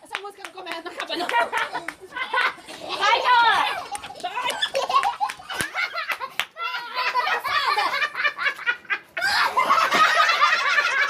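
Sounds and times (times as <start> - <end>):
people laughing and giggling: 0.6 - 11.0.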